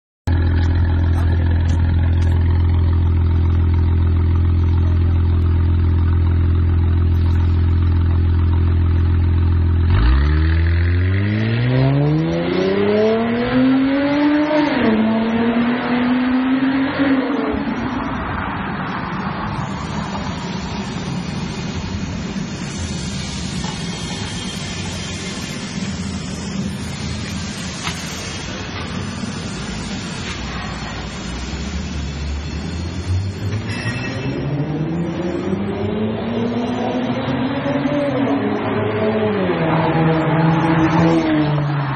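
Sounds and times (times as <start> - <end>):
car engine idling and pulling away: 0.3 - 16.8, 17.5 - 41.9.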